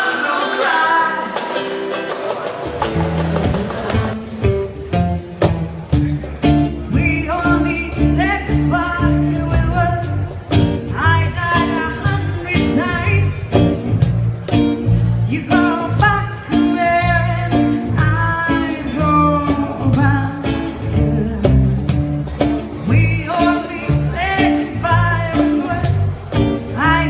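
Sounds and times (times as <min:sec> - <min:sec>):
pop song with singer: 0:00.0 - 0:04.2, 0:06.9 - 0:14.0, 0:15.2 - 0:27.0.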